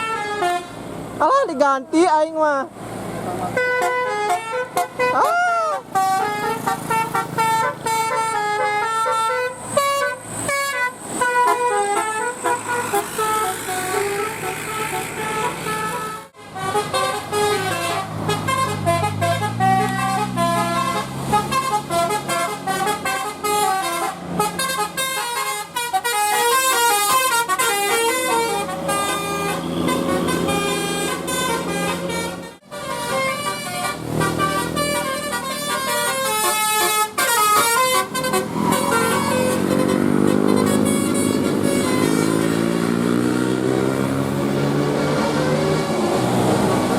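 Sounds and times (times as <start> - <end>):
multi-tone bus horn tunes: 0.0 - 0.9, 3.4 - 46.9.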